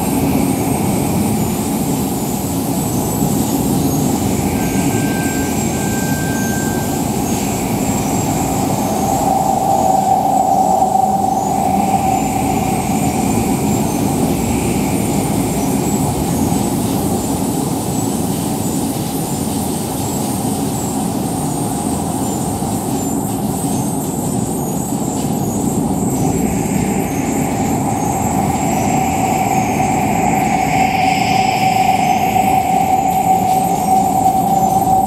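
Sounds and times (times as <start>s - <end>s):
thin high whine: 0.0s - 21.4s, 22.2s - 35.0s.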